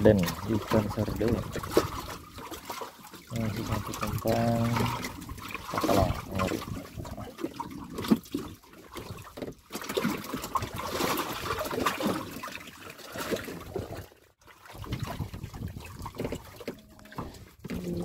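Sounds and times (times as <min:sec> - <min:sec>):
water sloshing against wooden boat: 0:00.0 - 0:18.0.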